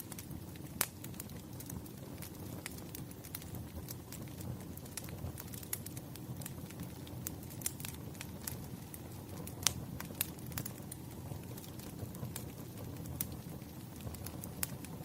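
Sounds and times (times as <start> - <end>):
firewood crackling: 0.0 - 15.0.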